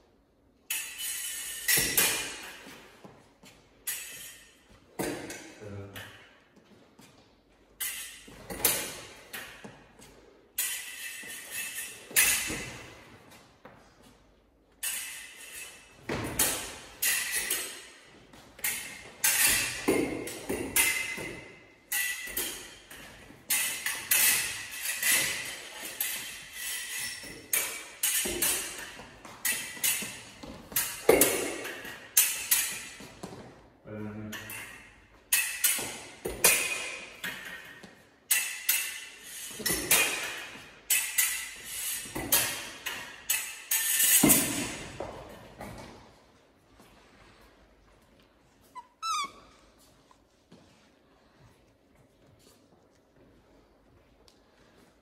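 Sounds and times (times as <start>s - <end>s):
fencing blades clashing: 0.6s - 46.9s.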